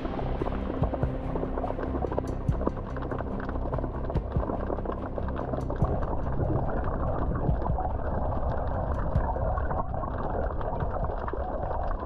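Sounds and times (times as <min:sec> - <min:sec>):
seawater sloshing and gurgling: 0:00.0 - 0:12.0
small splashes and clicks: 0:00.9 - 0:12.0.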